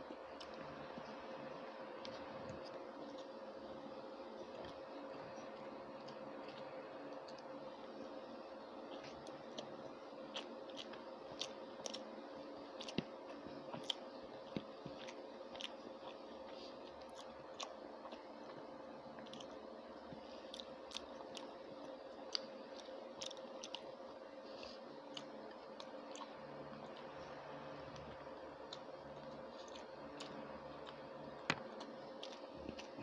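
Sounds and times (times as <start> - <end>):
steady hum: 0.0 - 33.0
person chewing with wet clicks: 0.1 - 1.2, 2.0 - 3.4, 4.4 - 7.6, 8.8 - 33.0.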